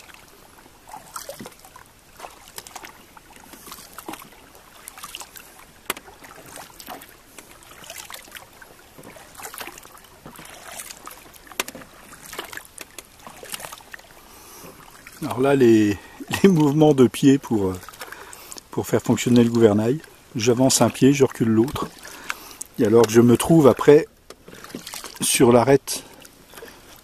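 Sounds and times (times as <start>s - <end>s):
paddle splashing and dripping water: 0.0s - 27.0s.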